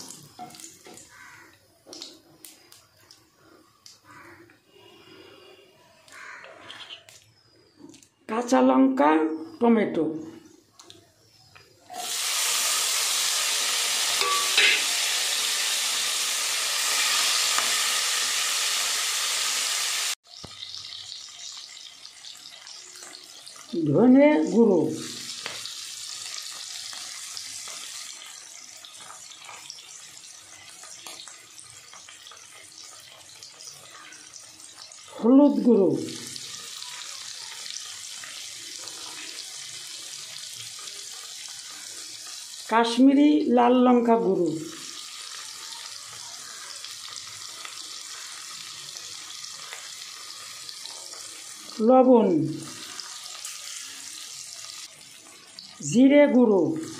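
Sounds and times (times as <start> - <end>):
vegetables sizzling in hot oil: 0.0 - 5.4, 10.5 - 56.9.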